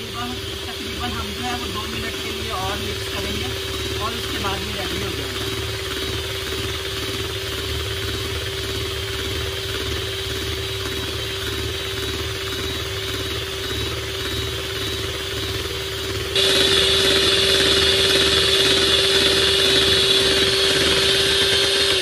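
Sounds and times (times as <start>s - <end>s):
electric hand mixer whisking: 0.0s - 22.0s.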